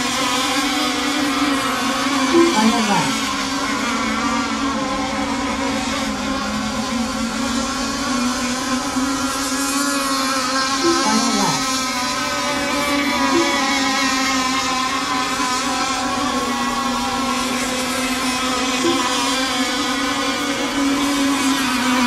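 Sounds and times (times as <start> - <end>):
model boat engines whining: 0.0 - 22.0.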